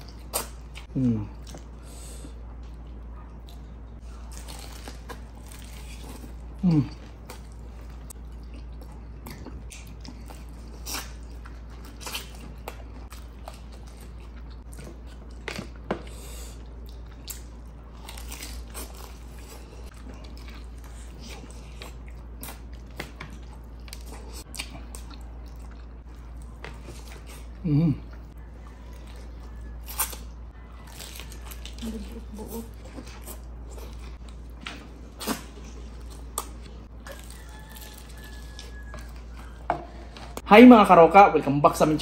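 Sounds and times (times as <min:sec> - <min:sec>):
person chewing crispy chicken: 0:00.0 - 0:40.4.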